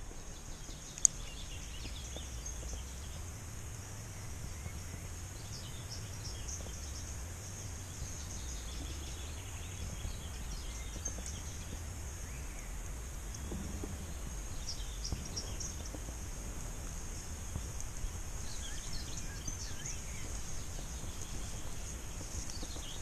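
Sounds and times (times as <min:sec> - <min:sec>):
birds chirping: 0:00.0 - 0:23.0
steady low rumble: 0:00.0 - 0:23.0.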